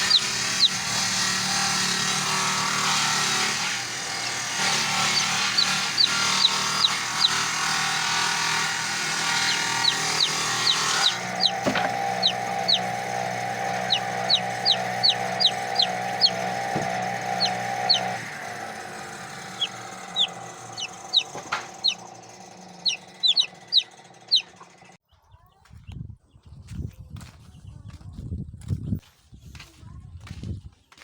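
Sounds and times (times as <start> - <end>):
chainsaw engine idling: 0.0 - 25.0
chicks peeping: 0.0 - 28.2.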